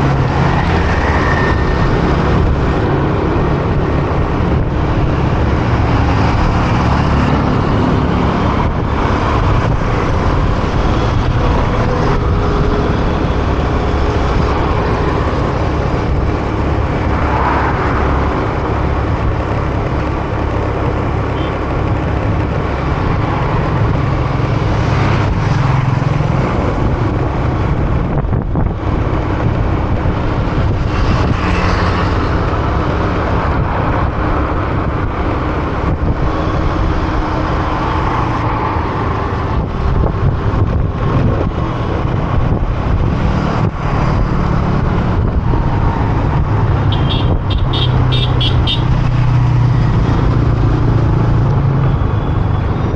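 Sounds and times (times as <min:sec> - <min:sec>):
vehicles passing: 0:00.0 - 0:52.9
wind on microphone: 0:00.0 - 0:52.9.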